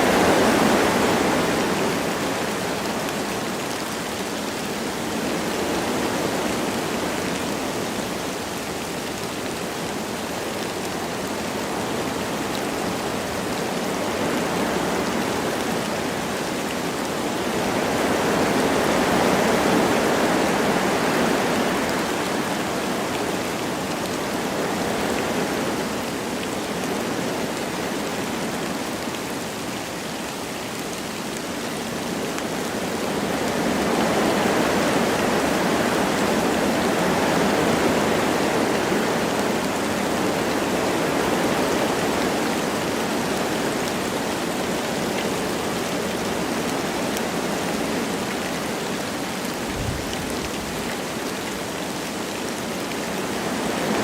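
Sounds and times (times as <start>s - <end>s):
light rain: 0.0s - 54.0s
wind through trees: 0.0s - 54.0s.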